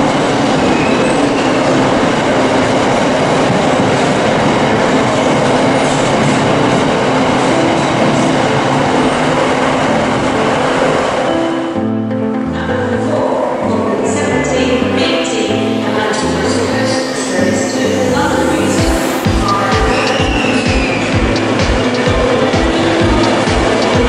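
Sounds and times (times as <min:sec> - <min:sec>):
steel wheels on rails: 0:00.0 - 0:11.7, 0:14.7 - 0:24.0
freight train passing: 0:00.0 - 0:24.0.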